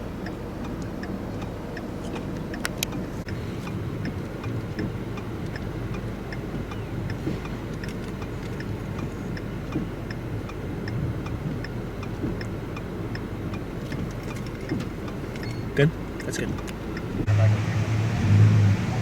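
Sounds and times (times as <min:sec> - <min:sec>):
turn signal clicking: 0:00.0 - 0:17.6
low vehicle rumble: 0:00.0 - 0:19.0.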